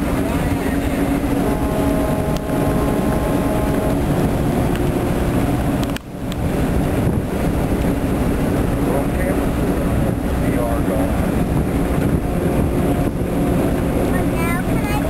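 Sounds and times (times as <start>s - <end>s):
boat diesel engine running: 0.0s - 15.0s
wind noise on microphone: 0.0s - 15.0s.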